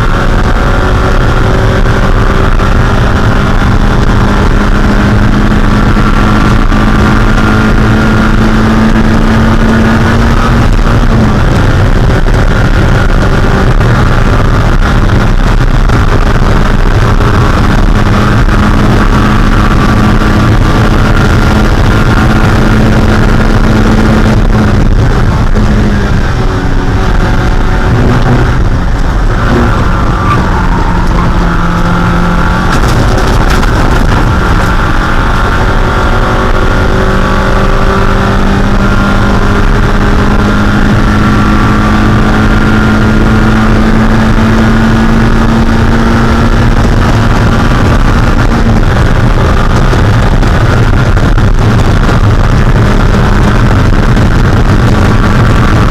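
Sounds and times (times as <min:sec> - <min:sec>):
car engine running hard: 0:00.0 - 0:55.9
road noise: 0:00.0 - 0:55.9
wind noise: 0:00.0 - 0:55.9.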